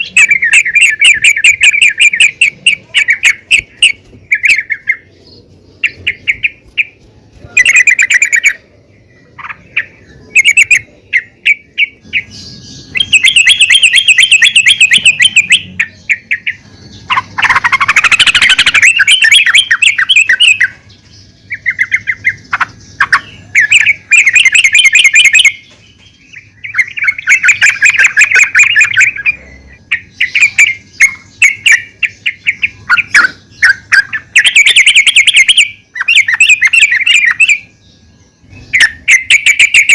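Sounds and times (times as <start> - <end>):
bird rapid chattering calls: 0.0 - 37.8, 38.5 - 39.9.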